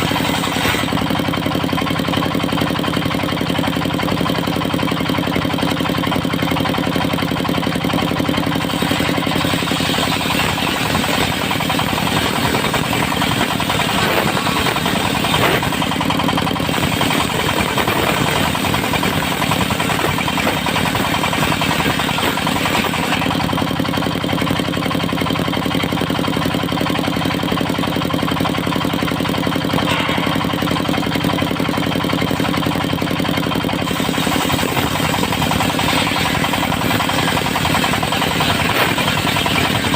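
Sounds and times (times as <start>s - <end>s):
sawmill engine running steadily: 0.0s - 39.9s.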